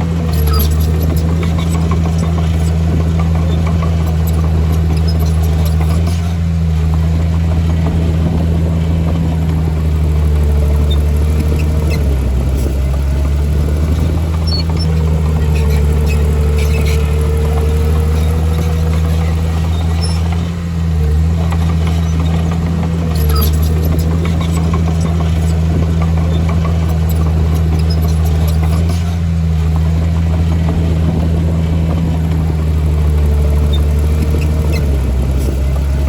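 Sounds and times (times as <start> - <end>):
heavy diesel engine droning: 0.0 - 36.0.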